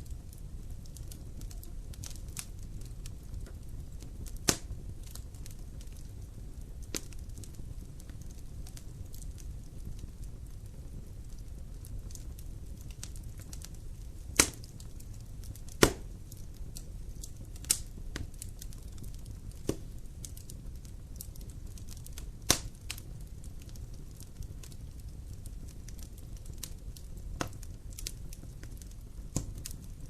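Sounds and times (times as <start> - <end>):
fire low rumble: 0.0 - 30.0
wood fire crackling: 0.0 - 30.0
sharp pops of burning wood: 0.3 - 30.0.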